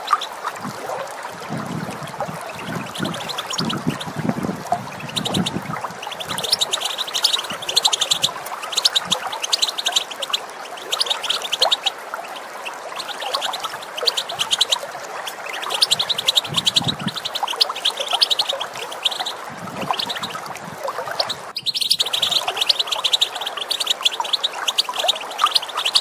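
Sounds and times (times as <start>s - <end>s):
running water rushing: 0.0s - 26.0s
goldfinch twittering call: 2.4s - 26.0s.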